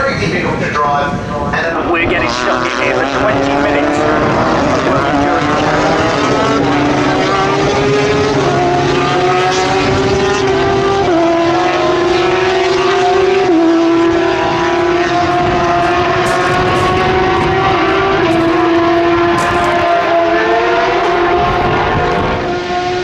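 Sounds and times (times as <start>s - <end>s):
race car engines upshifting: 0.0s - 23.0s.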